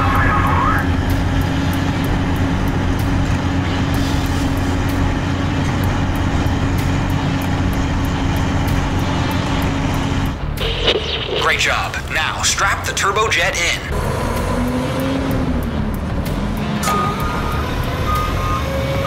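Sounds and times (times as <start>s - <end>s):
low mechanical engine drone: 0.0s - 19.0s.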